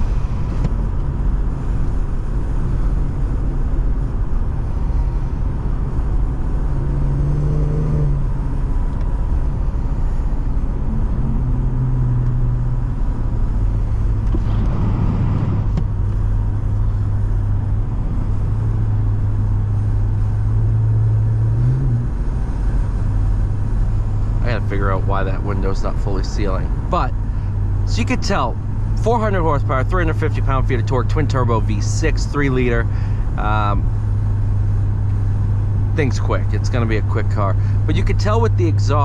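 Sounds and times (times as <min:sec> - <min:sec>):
car engine exhaust note: 0:00.0 - 0:39.0.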